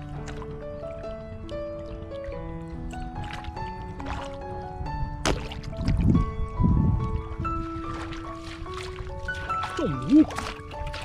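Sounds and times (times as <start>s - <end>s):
slow held-note music: 0.0s - 11.0s.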